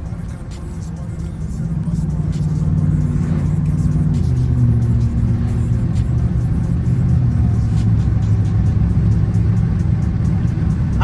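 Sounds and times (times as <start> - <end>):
background music with a beat: 0.0 - 10.8
car engine rumble: 0.0 - 11.0.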